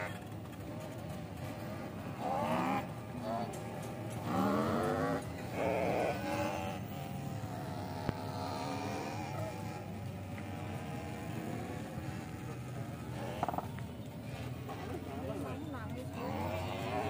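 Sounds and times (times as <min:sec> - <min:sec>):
mini motorbikes motor buzz: 0:00.0 - 0:17.0.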